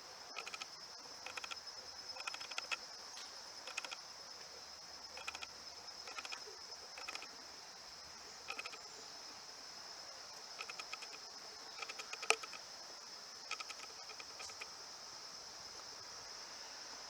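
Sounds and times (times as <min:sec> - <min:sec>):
insect chirping trills: 0:00.0 - 0:17.0
insects buzzing: 0:00.0 - 0:17.0.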